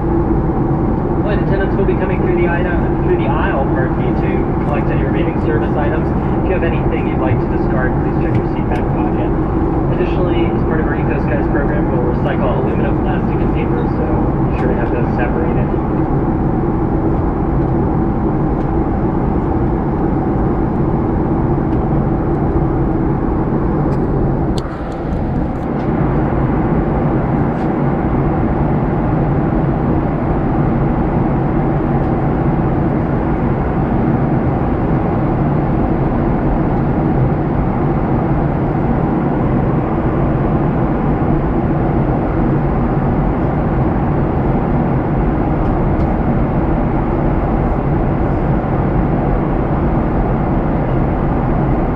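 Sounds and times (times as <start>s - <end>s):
airliner cabin drone: 0.0s - 51.9s.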